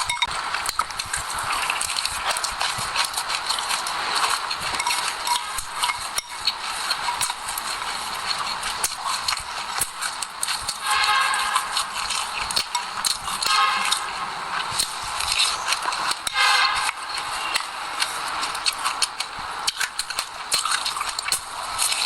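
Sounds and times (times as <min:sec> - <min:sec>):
chewing crunchy seeds: 0:00.0 - 0:22.0.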